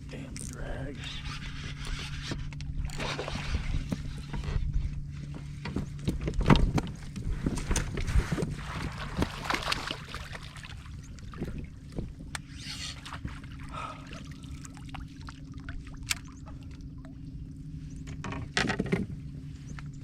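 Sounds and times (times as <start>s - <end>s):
steady low hum: 0.0s - 20.0s
water splashing and sloshing: 0.2s - 20.0s.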